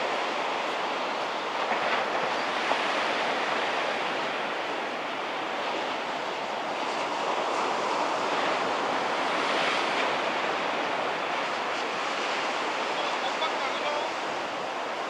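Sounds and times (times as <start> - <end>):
small waves breaking on sand: 0.0 - 15.0.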